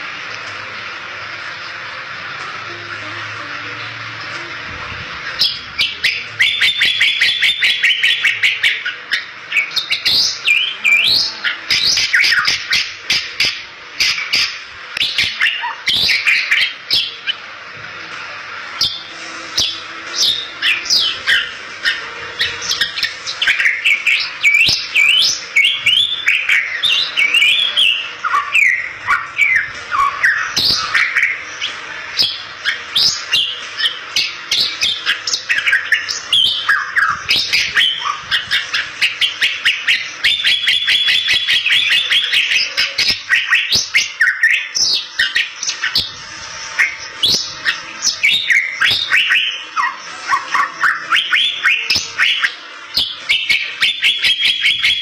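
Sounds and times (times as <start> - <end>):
buzzy bird trill: 5.2 - 17.4, 18.7 - 55.0
bird whistling and chattering: 5.4 - 17.4, 18.8 - 55.0.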